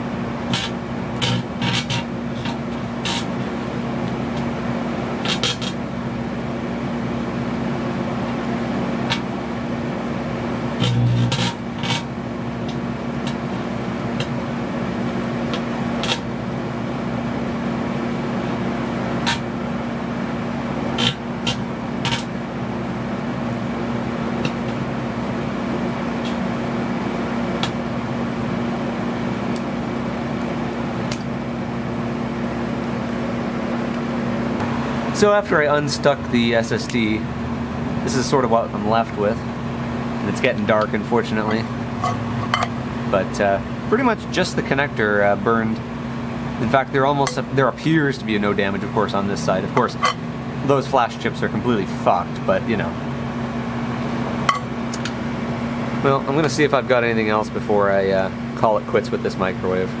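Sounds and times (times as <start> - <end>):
microwave oven humming: 0.0 - 60.0.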